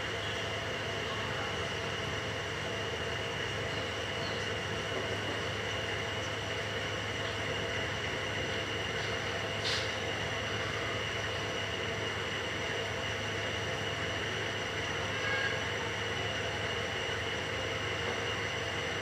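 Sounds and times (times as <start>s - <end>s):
mechanical hum with hiss: 0.0s - 19.0s.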